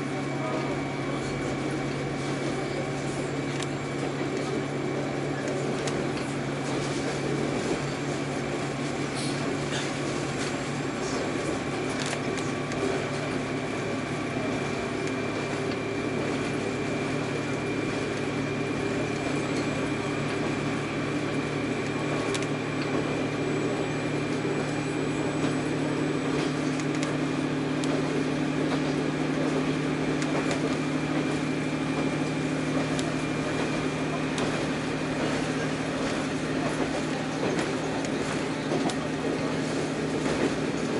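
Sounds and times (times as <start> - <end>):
diesel engine drone: 0.0 - 40.9
train wheels on rail: 0.0 - 40.9.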